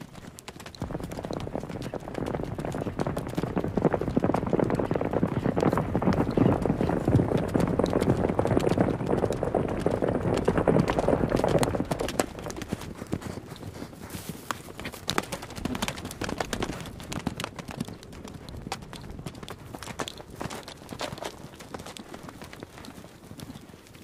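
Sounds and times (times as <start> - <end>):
galloping horse hoofbeats: 0.0 - 24.0.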